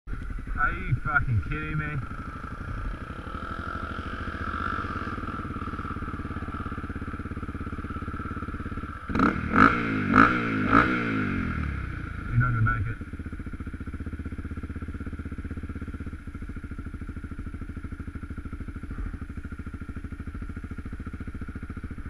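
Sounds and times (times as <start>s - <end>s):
motorcycle engine idling and revving: 0.1s - 22.0s.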